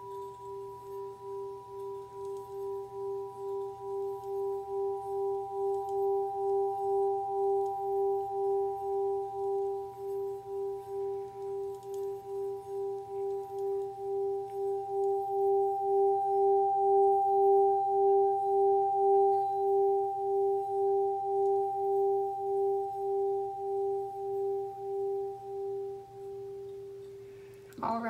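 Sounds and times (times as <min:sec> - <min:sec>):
singing bowl humming: 0:00.0 - 0:28.0
singing bowl ringing: 0:00.0 - 0:28.0.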